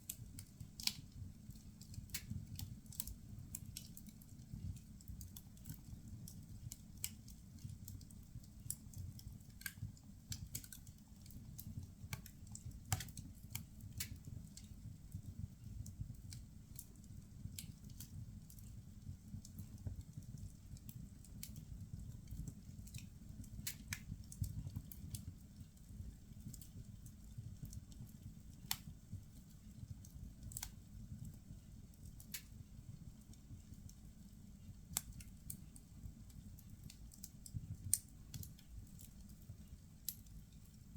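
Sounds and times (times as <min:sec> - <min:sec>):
firewood crackling and popping: 0:00.0 - 0:40.9
low fire rumble: 0:00.0 - 0:40.9.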